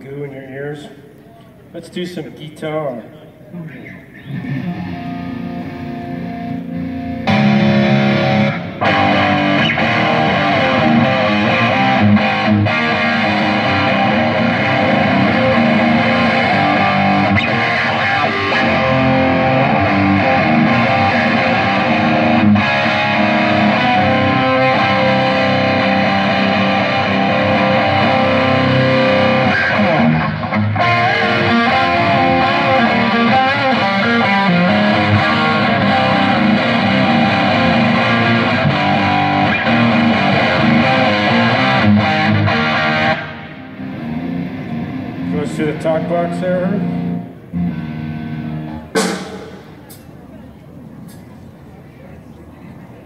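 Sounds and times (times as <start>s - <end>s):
distant distorted electric guitar: 3.2s - 52.6s.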